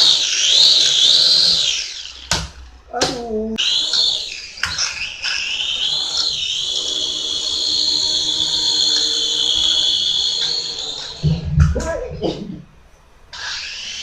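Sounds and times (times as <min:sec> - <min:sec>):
toy drone propellers whining: 0:00.0 - 0:11.6, 0:13.3 - 0:14.0.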